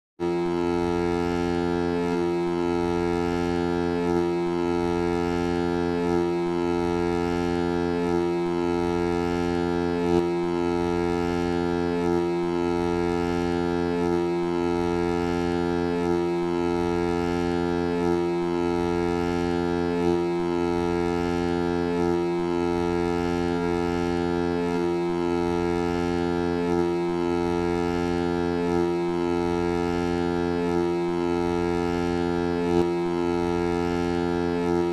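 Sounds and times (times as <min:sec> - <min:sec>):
deep vocoder foghorn drone: 0:00.2 - 0:34.9.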